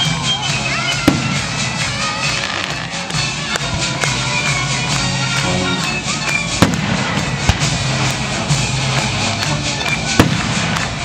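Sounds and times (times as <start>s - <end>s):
orchestra playing held notes: 0.0s - 11.0s
fireworks bangs: 0.6s - 5.1s, 5.8s - 11.0s.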